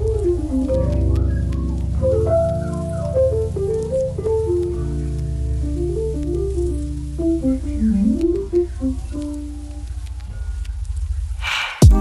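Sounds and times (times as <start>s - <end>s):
instrumental music with held notes: 0.0s - 10.3s.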